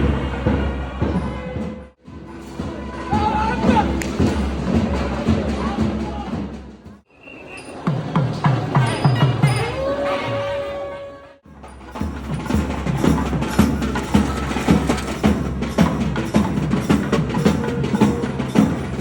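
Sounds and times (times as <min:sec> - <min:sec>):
drums beating fast rhythm: 0:00.0 - 0:07.1, 0:07.8 - 0:10.0, 0:11.5 - 0:19.0.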